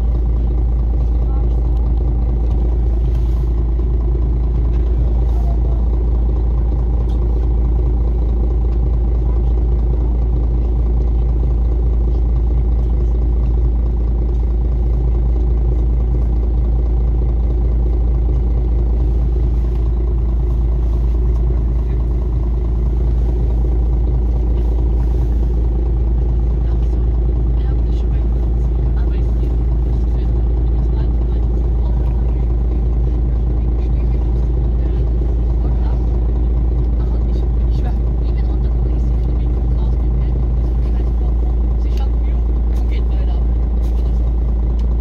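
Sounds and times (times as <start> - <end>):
bus engine idling: 0.0 - 45.0.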